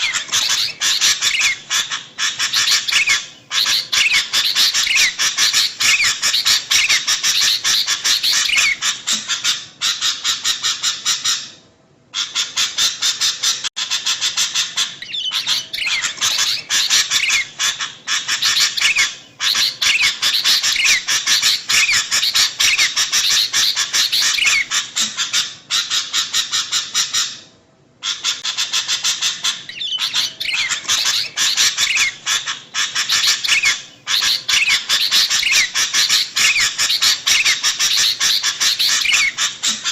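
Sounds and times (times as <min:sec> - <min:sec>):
bulbuls chattering calls: 0:00.0 - 0:11.4, 0:12.2 - 0:27.2, 0:28.0 - 0:39.9.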